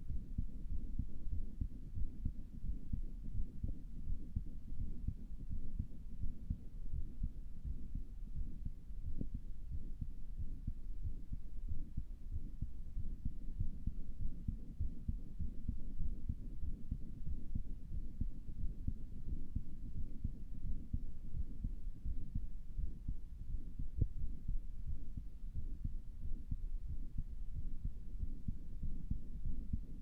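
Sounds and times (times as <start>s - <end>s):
heartbeat through stethoscope: 0.0s - 30.0s.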